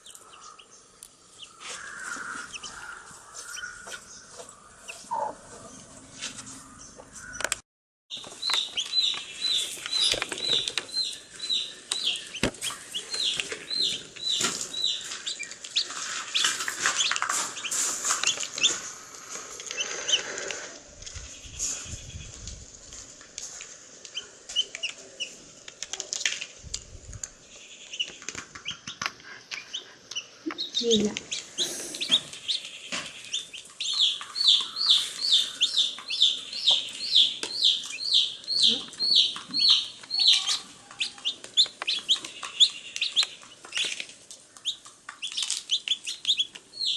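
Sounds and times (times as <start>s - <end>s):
baby chicks peeping: 0.0s - 22.6s, 23.5s - 46.9s
sharp taps and rustles: 7.2s - 11.3s, 11.9s - 25.0s, 25.6s - 38.1s, 38.7s - 46.9s.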